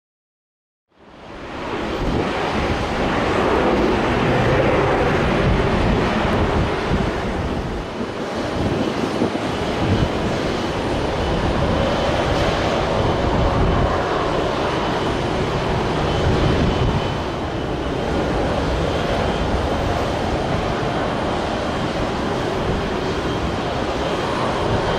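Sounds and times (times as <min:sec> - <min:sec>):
jet aircraft noise: 0:01.0 - 0:24.9
wind buffeting microphone: 0:01.3 - 0:24.9.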